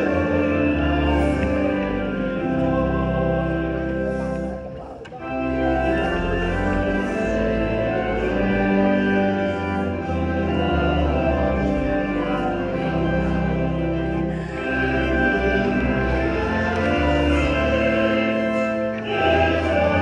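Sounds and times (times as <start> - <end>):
organ chords: 0.0 - 20.0.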